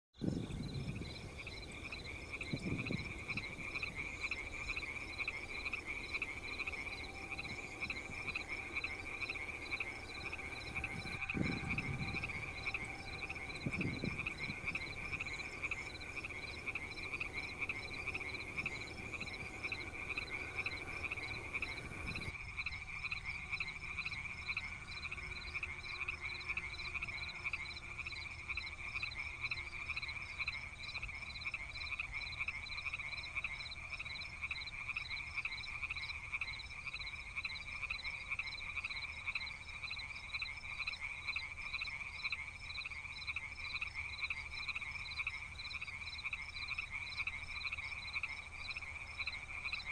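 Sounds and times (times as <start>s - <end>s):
frogs calling in pulsing trill: 0.2s - 49.9s.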